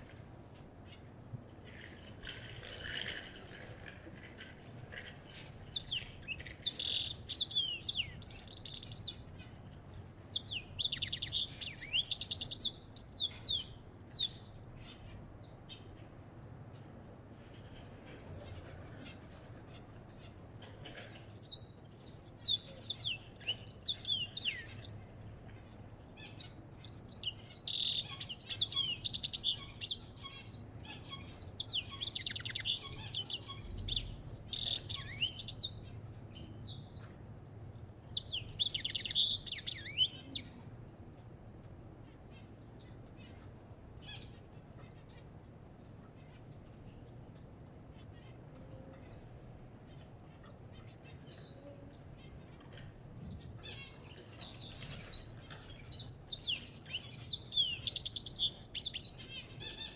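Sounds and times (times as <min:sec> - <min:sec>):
goldfinch singing: 0:04.9 - 0:16.0, 0:17.3 - 0:40.6, 0:42.0 - 0:59.9.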